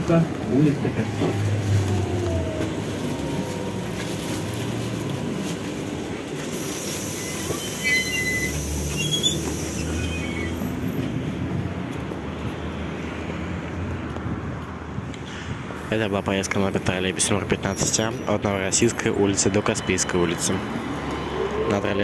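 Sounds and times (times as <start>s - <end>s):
street noise: 0.0s - 22.0s
trolleybus humming: 0.0s - 22.0s.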